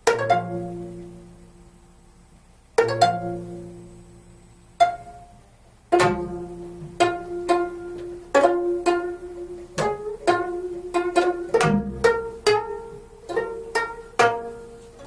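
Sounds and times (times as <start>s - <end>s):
plucked zither notes: 0.0s - 1.9s, 2.8s - 15.0s.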